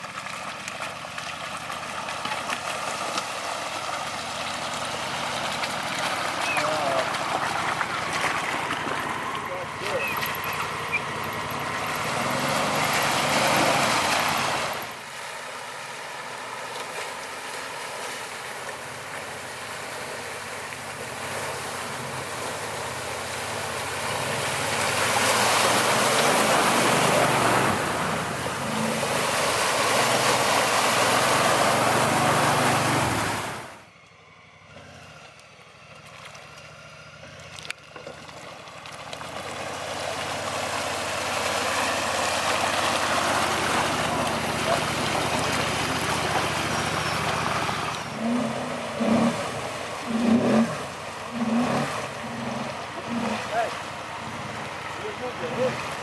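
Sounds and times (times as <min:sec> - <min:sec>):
atv engine running: 0:00.0 - 0:15.0, 0:15.8 - 0:56.0
water splashing and rushing: 0:00.0 - 0:33.8, 0:37.3 - 0:56.0.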